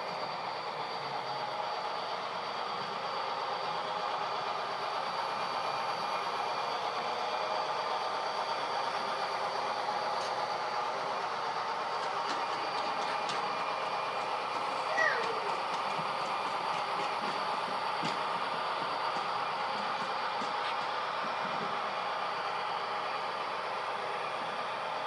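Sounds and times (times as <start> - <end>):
model train rolling rumble: 0.0 - 25.0.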